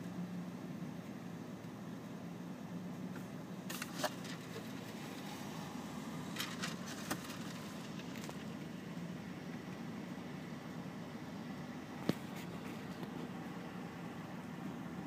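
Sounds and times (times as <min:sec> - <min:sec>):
car cabin hum: 0:02.1 - 0:15.0.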